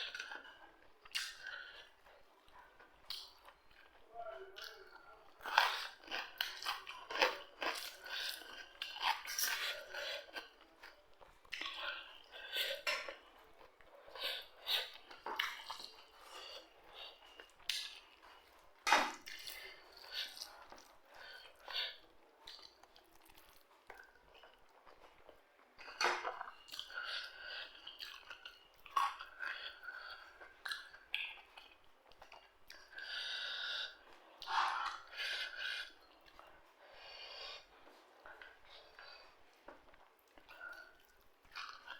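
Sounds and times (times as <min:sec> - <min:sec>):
person chewing crunchy food: 0:05.3 - 0:41.9.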